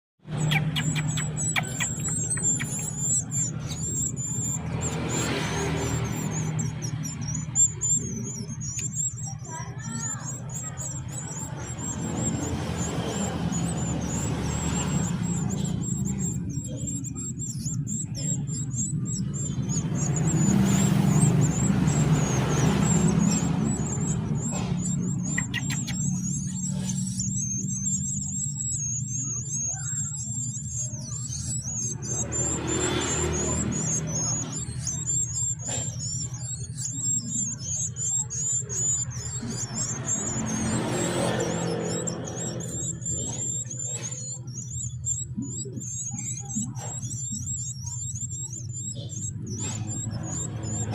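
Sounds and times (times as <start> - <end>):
nestlings chirping: 0.2 - 50.9.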